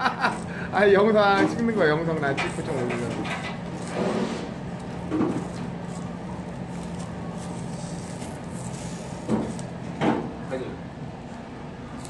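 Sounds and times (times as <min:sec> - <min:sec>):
low mechanical hum: 0:00.0 - 0:12.0
room noise: 0:00.0 - 0:12.0.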